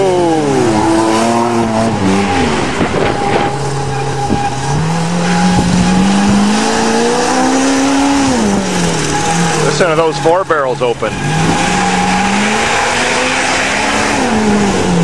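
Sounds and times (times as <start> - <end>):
vehicle engine revving hard: 0.0 - 15.0.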